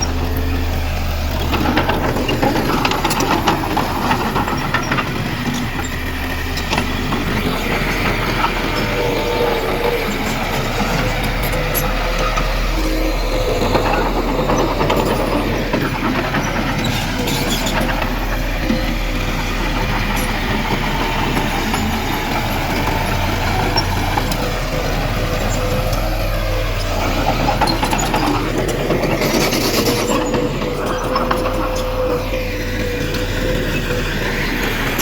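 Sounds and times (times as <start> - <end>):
bulldozer diesel engine whining: 0.0 - 35.0
tracks clanking and rattling: 0.0 - 35.0.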